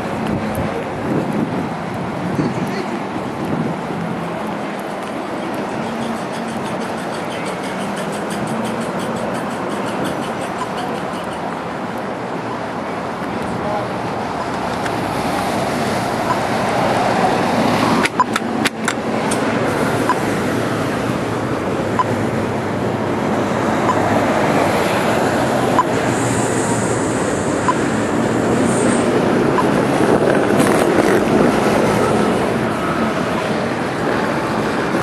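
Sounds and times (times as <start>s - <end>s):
traffic noise: 0.0s - 35.0s
voices of passers-by: 0.0s - 35.0s.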